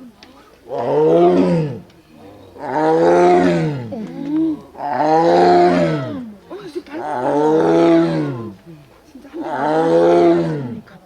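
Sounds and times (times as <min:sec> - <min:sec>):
tiger roaring: 0:00.6 - 0:06.3, 0:07.0 - 0:08.6, 0:09.4 - 0:10.9.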